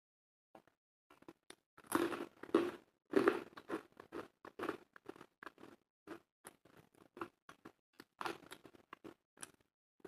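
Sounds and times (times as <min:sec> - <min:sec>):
crunchy chewing of food: 0:01.1 - 0:09.7.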